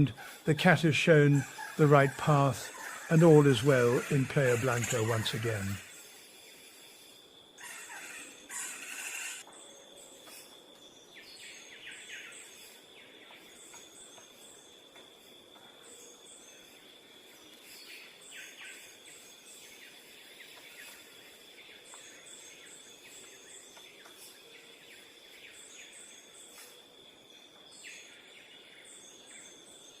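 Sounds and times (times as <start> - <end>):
small birds chirping: 0.0 - 15.1, 15.7 - 30.0.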